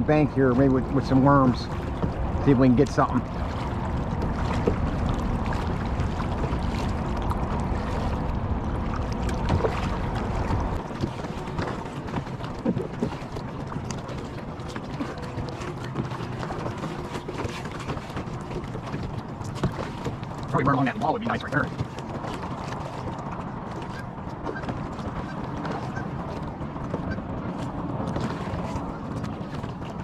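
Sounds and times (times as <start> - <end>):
kayak paddling: 0.0 - 30.0
water splashing: 0.0 - 30.0
wind rumbling on microphone: 0.0 - 30.0.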